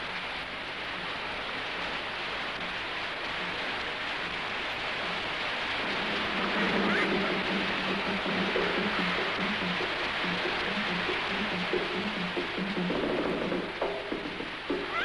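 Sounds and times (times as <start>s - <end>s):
music: 0.0s - 15.0s
whitewater rushing in rapids: 0.7s - 15.0s.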